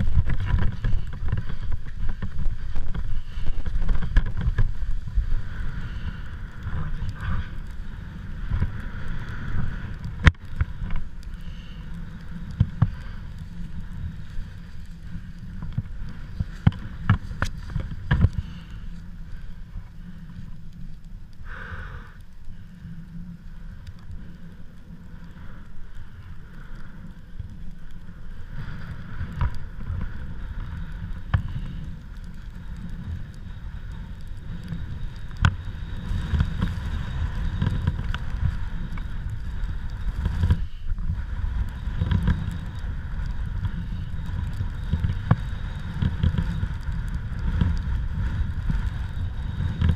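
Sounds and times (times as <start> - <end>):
wind buffeting microphone: 0.0 - 21.7, 25.2 - 49.9.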